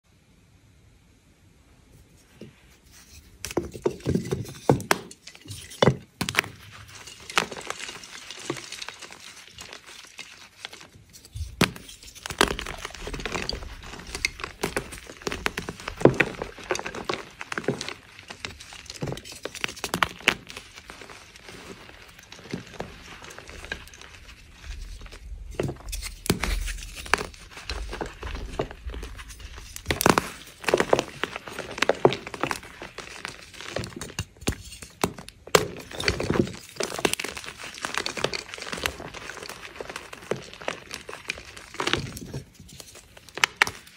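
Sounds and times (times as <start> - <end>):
chalk blocks crunching in hands: 2.7 - 43.9.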